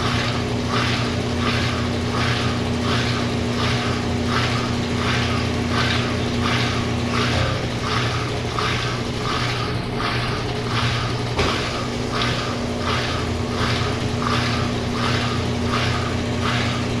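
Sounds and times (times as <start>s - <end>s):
rhythmic swish: 0.0s - 17.0s
washing machine motor hum: 0.0s - 17.0s.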